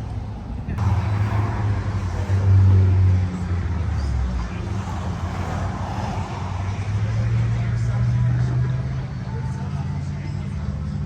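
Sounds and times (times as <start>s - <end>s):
car engine hum: 0.0s - 11.0s
tyre and road noise: 0.0s - 11.0s.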